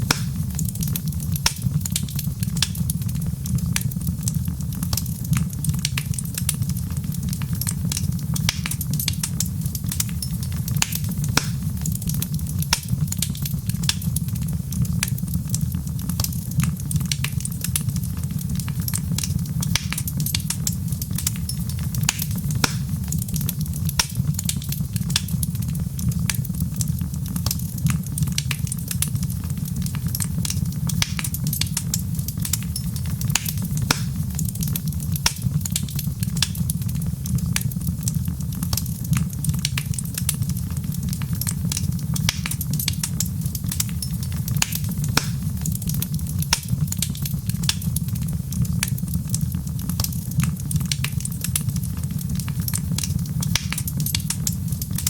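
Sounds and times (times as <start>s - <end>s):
low rumble of burning fire: 0.0s - 55.0s
wood fire crackling: 0.0s - 55.0s.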